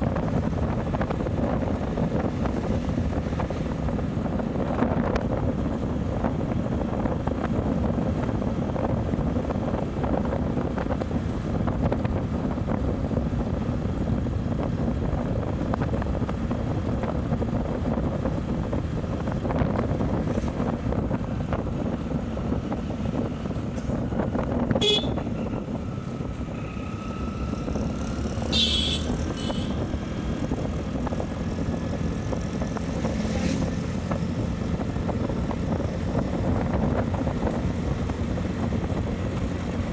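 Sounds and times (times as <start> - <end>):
motorcycle engine and road rumble: 0.0 - 39.9
wind on microphone: 0.0 - 39.9.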